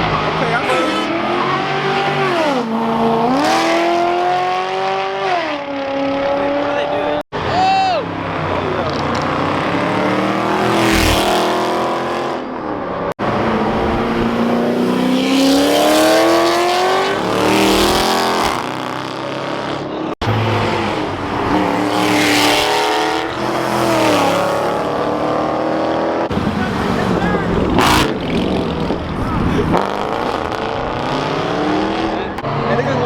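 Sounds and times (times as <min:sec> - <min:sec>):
car engines accelerating hard: 0:00.0 - 0:33.0.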